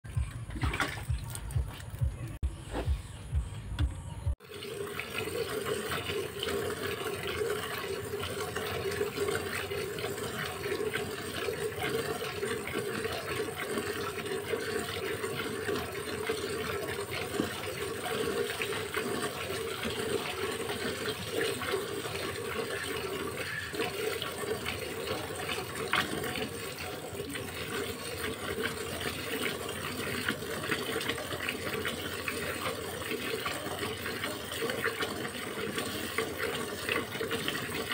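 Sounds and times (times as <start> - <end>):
milk squirting into a bucket: 4.5 - 37.9.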